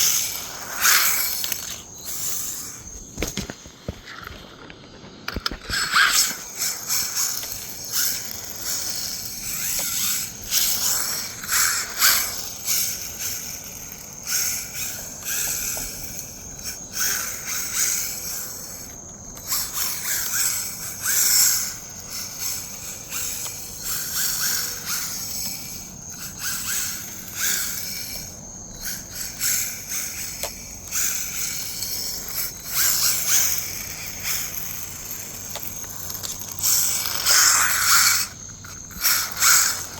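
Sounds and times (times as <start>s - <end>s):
rc car motor whine: 0.0s - 39.9s
rc car tyres scrabbling on dirt: 0.0s - 39.9s.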